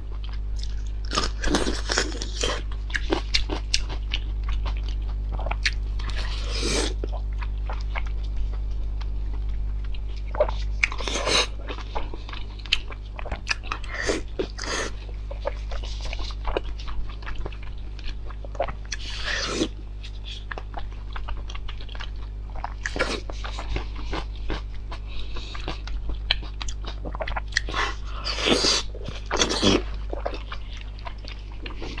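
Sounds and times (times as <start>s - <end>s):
close chewing and crunching: 0.0s - 32.0s
steady low hum: 0.0s - 32.0s.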